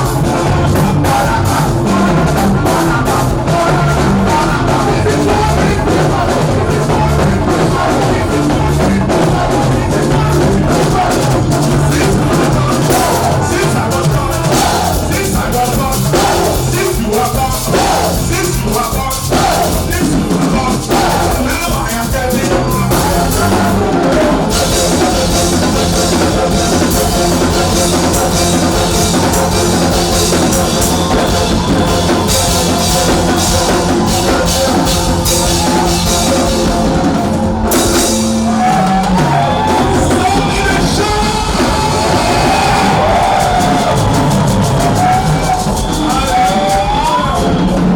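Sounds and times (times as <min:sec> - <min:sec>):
band music: 0:00.0 - 0:47.9
drum kit: 0:00.0 - 0:47.9
person singing: 0:00.0 - 0:47.9.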